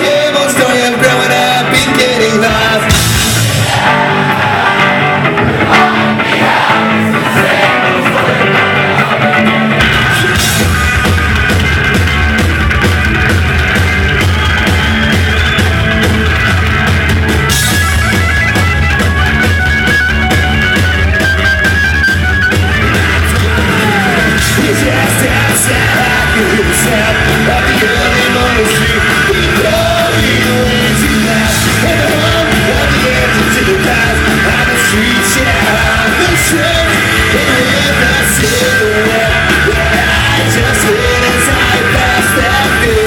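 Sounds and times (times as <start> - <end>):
bass guitar: 0.0 - 43.0
drums: 0.0 - 43.0
electric guitar: 0.0 - 43.0.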